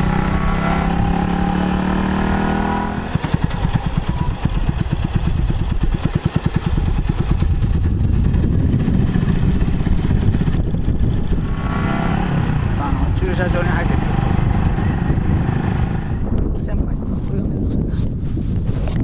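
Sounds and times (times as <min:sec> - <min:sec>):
motorcycle engine running: 0:00.0 - 0:19.0
wind noise on microphone: 0:00.0 - 0:19.0.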